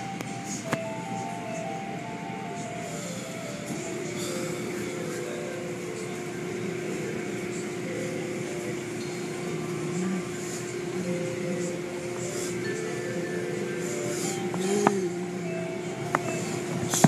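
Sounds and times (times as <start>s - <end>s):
machinery noise: 0.0s - 17.0s
steady hum: 0.0s - 17.0s.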